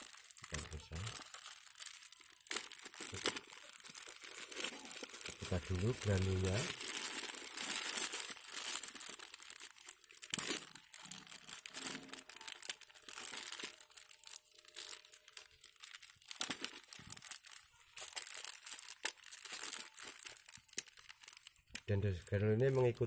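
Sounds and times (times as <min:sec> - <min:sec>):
plastic packet crinkling: 0:00.0 - 0:23.0.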